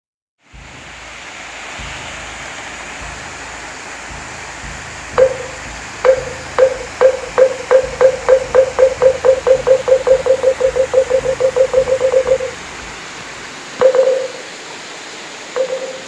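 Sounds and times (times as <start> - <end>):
wooden fish drum strokes: 0.4 - 14.8.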